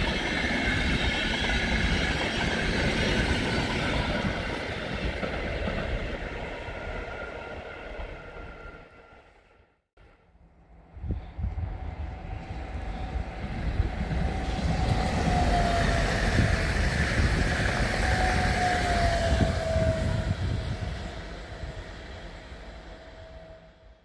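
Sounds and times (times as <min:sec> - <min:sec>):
electric train passing at speed: 0:00.0 - 0:24.0.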